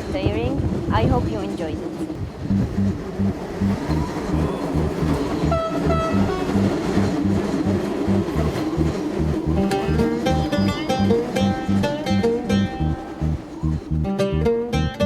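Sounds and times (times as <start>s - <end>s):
background music with low beat: 2.5s - 15.0s
plucked guitar notes: 2.5s - 15.0s.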